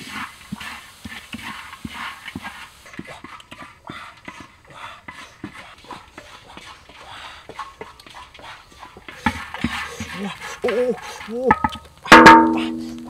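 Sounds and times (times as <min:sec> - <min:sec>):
stick scraping a metal wok: 0:00.0 - 0:13.0.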